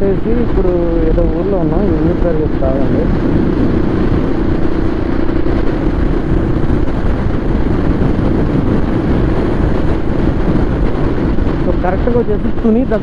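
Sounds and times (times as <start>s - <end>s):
motorcycle engine cruising: 0.0s - 13.0s
wind noise on microphone: 0.0s - 13.0s.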